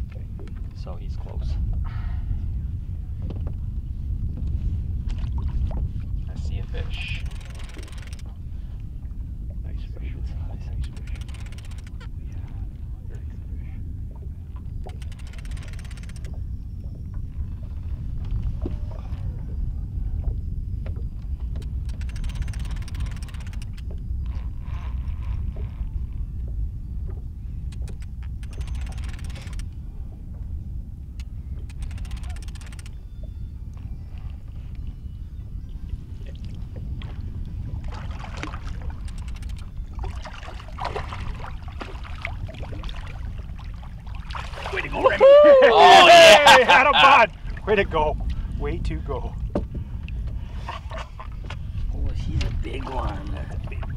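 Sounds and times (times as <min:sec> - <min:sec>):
boat motor: 0:00.0 - 0:53.9
underwater rumble of water: 0:00.0 - 0:53.9.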